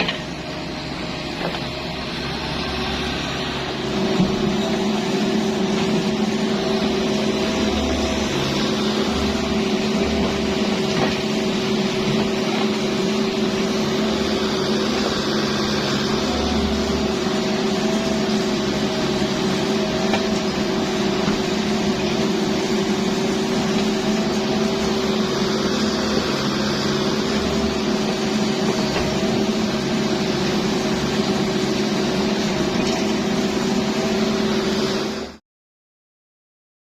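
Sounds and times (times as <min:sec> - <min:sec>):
diesel engine running steadily: 0:00.0 - 0:35.4.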